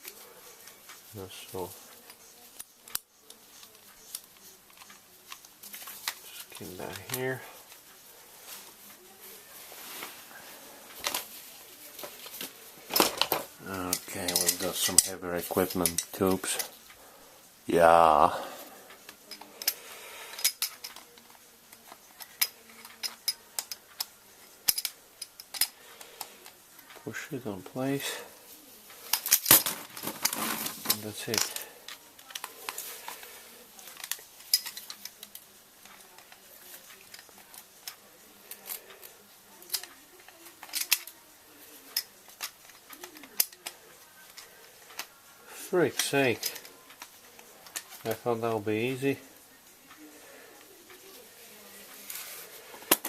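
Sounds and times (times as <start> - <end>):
small metal parts clicking and clinking: 0.0 - 7.9, 10.9 - 17.0, 18.9 - 28.2, 28.8 - 53.0.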